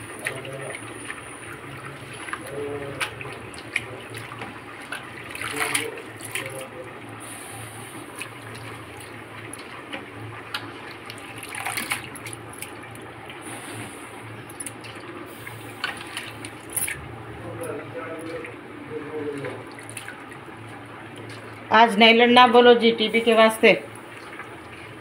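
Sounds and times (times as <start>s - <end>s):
water running from a tap: 0.0s - 22.0s.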